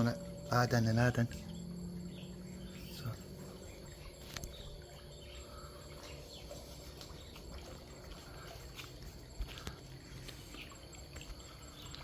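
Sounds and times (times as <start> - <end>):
faint birds chirping: 0.0 - 12.0
low steady rumble: 0.0 - 12.0.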